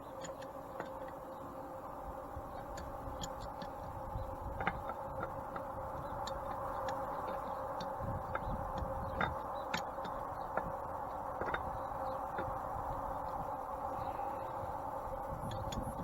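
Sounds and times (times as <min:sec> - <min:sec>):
light clicks and taps of parts: 0:00.0 - 0:01.4, 0:02.5 - 0:14.0
steady hum: 0:00.0 - 0:16.0.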